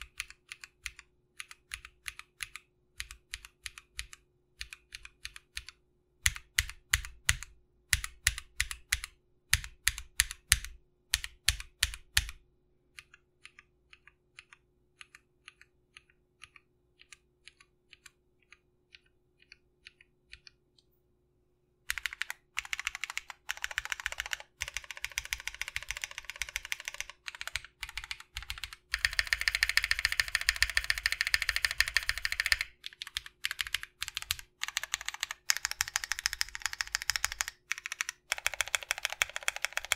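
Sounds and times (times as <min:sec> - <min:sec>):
mechanical keyboard typing: 0:00.0 - 0:20.6, 0:21.9 - 0:39.9.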